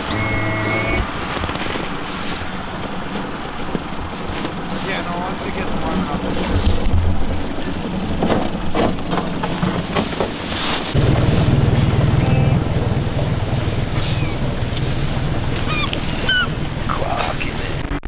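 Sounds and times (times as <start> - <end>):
boat motor running: 0.0 - 18.0
wind buffeting microphone: 0.0 - 18.0.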